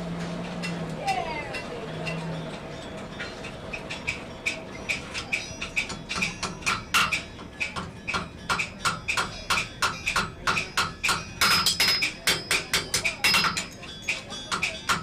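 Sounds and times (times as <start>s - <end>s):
hammer forging iron on anvil: 1.6s - 15.0s.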